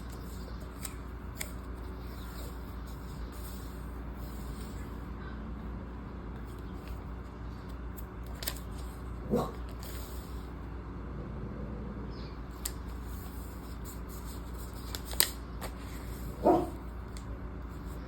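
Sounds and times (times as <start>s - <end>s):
paper packaging being handled: 0.0s - 5.0s, 6.4s - 10.5s, 12.5s - 18.0s
steady low hum: 0.0s - 18.0s.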